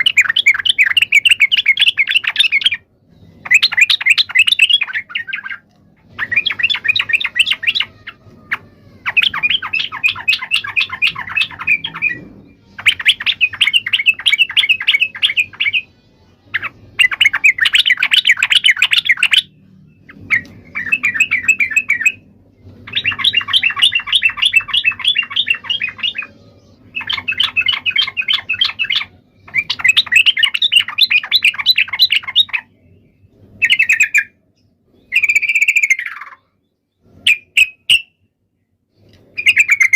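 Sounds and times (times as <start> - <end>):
bulbul chattering song: 0.0 - 38.4, 39.0 - 39.9.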